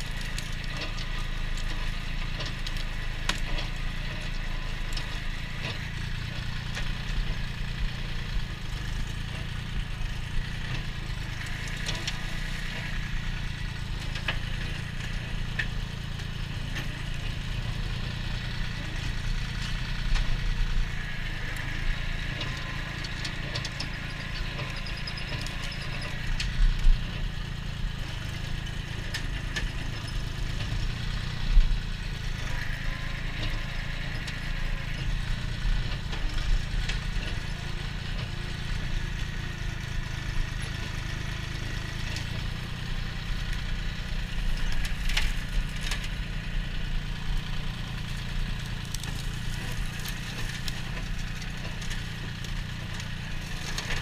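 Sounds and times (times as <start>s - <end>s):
flail mower cutting brush: 0.0s - 54.0s
tractor engine running: 0.0s - 54.0s.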